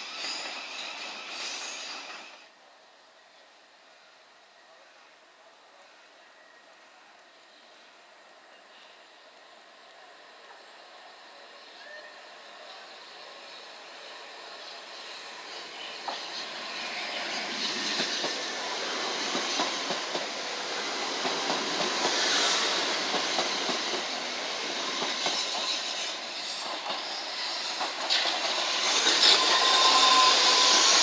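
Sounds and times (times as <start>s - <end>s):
train running past: 0.0s - 31.0s.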